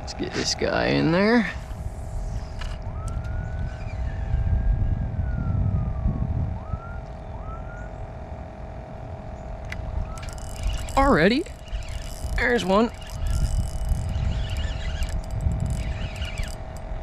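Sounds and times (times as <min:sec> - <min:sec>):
distant siren wailing: 0:00.0 - 0:17.0
low rumble: 0:00.0 - 0:17.0
steady hum: 0:00.0 - 0:17.0.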